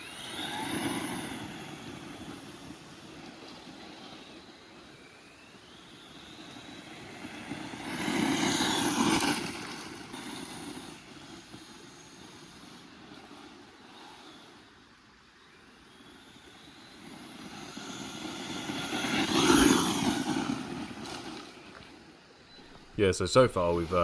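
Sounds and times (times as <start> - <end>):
tyres spinning: 0.0 - 14.7, 15.6 - 24.0
electric motor whine: 0.0 - 24.0.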